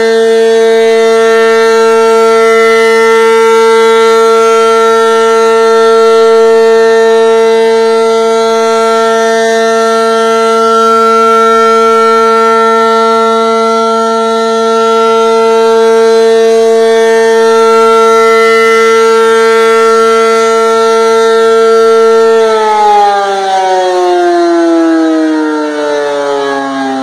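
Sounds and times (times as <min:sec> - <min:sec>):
rotating warning siren: 0:00.0 - 0:27.0.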